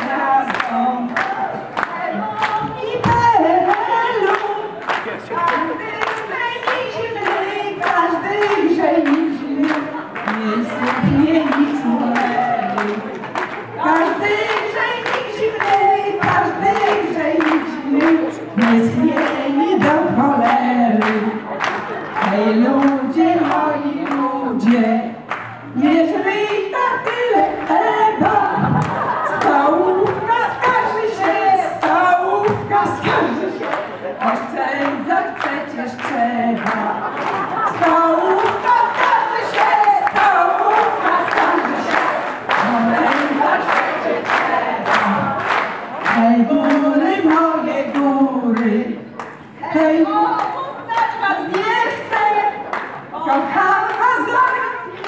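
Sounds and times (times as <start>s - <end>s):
hand-clapping: 0.0s - 25.6s, 26.4s - 48.1s, 50.4s - 55.0s
women singing together: 0.0s - 55.0s.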